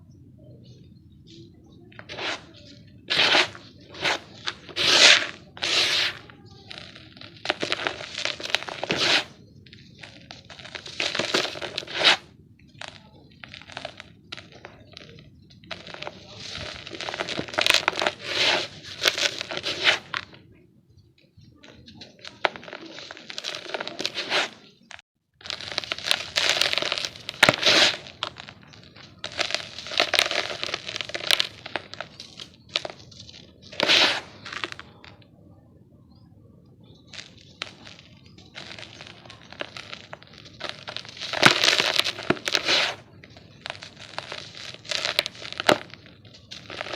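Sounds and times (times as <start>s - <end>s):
dry dirt crunching: 0.0s - 20.4s, 21.3s - 35.3s, 36.9s - 46.9s.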